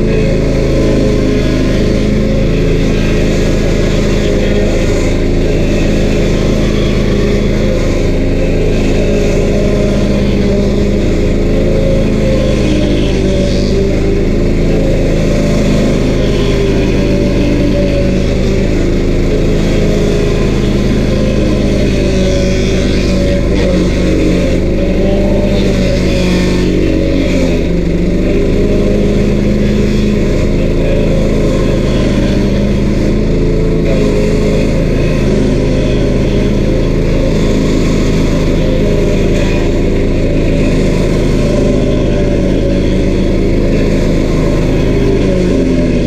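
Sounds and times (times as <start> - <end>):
stump grinder engine running: 0.0 - 46.0.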